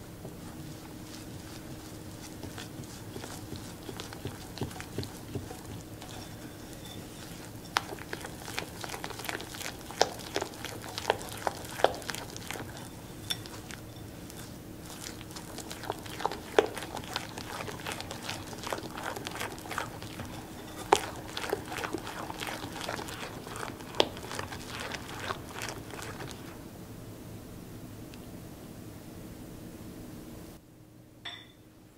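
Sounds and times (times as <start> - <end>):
utensil tapping mixing bowl: 0.2 - 26.6.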